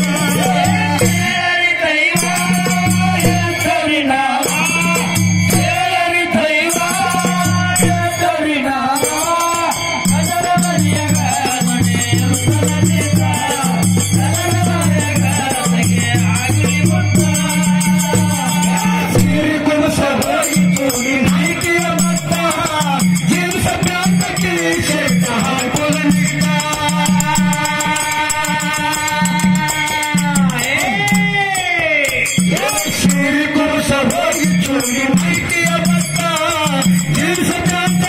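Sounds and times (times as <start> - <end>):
group singing: 0.0 - 38.0
hand percussion rhythm: 0.0 - 38.0
man leading chant-like singing: 0.0 - 38.0.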